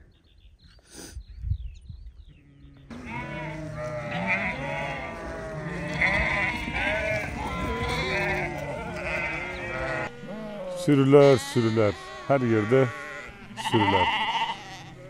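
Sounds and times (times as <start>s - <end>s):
sheep bleating: 2.9s - 15.0s.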